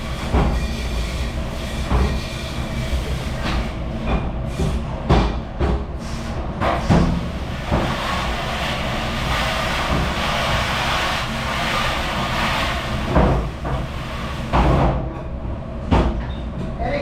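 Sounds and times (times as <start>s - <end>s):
machine rumble: 0.0s - 16.6s.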